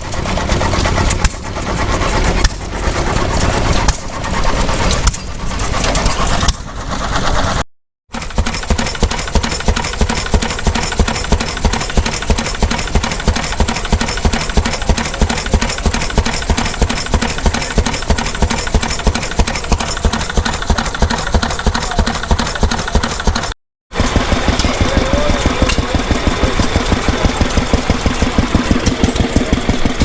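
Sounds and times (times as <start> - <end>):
stationary engine running: 0.0 - 30.0.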